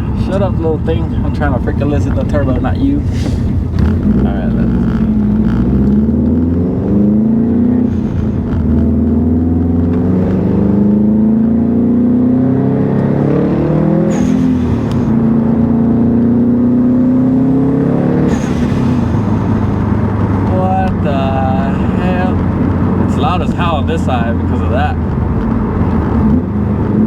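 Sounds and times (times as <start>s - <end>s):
turbo car engine accelerating: 0.0s - 27.0s.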